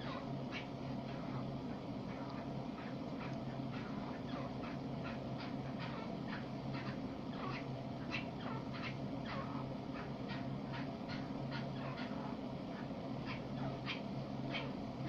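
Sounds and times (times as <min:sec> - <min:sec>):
steady low hum: 0:00.0 - 0:15.0
bird chirping calls: 0:02.1 - 0:15.0.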